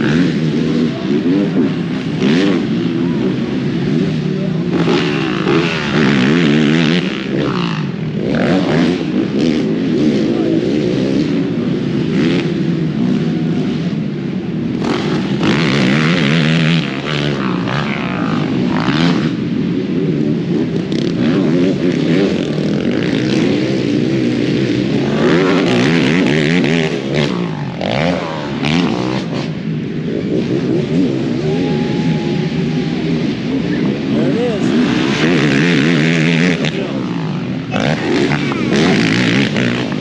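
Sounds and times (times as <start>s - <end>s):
racing quad engines revving: 0.0s - 40.0s.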